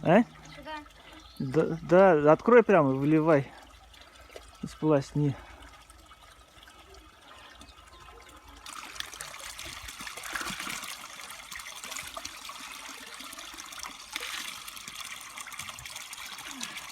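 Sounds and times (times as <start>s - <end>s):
spring water trickling and splashing: 0.0s - 16.9s.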